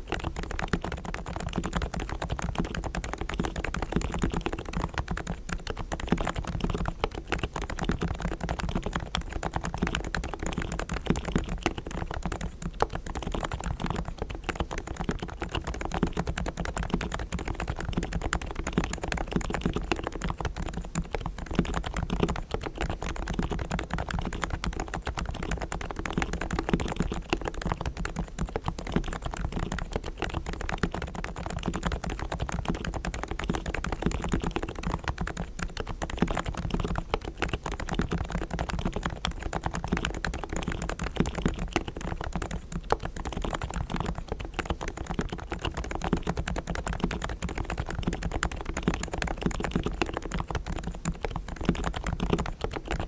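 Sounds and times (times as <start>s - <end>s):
fast typing on a keyboard: 0.0s - 53.0s.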